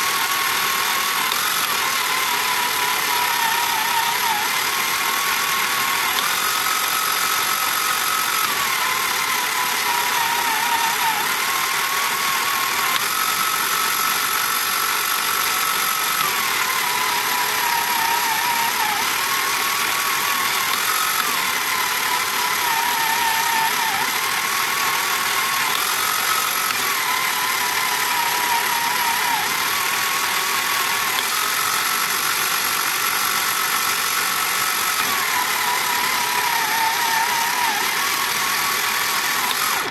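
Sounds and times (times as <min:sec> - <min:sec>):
toy motor and gears whining: 0:00.0 - 0:39.9.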